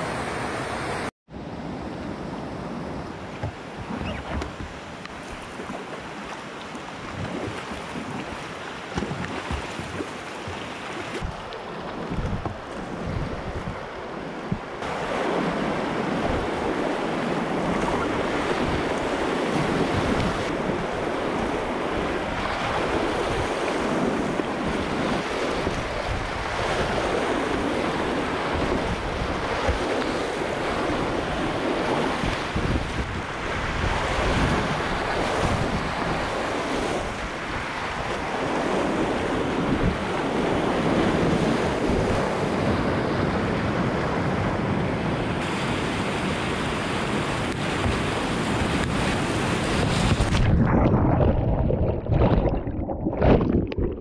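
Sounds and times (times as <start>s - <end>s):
whitewater roaring: 1.7s - 54.0s.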